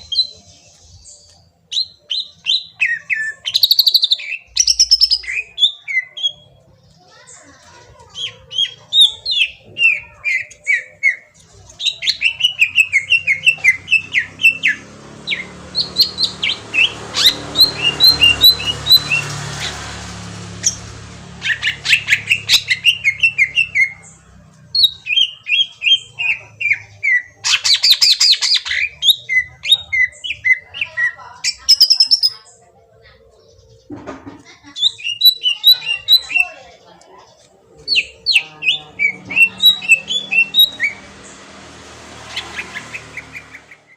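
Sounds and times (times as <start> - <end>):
bird singing sharp chirps: 0.0 - 6.6, 8.2 - 32.5, 34.8 - 36.6, 37.8 - 43.9.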